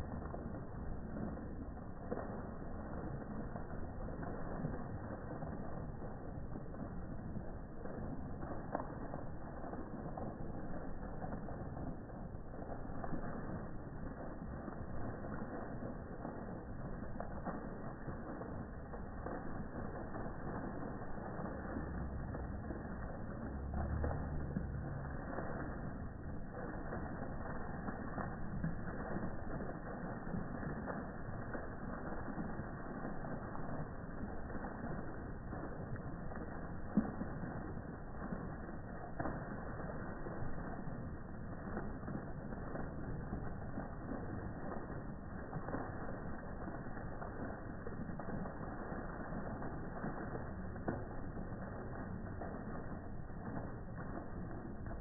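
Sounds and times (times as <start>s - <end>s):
fountain water splashing: 0.0s - 55.0s
low hum: 0.0s - 55.0s.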